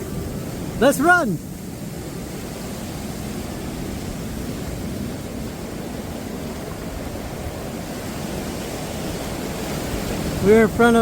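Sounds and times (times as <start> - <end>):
low wind rumble: 0.0 - 11.0
sea surf rushing: 0.0 - 11.0.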